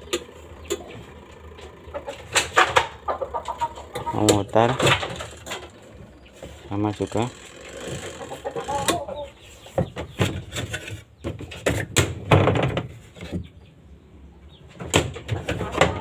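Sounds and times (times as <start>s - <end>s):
chickens clucking: 0.0s - 12.0s, 13.0s - 16.0s.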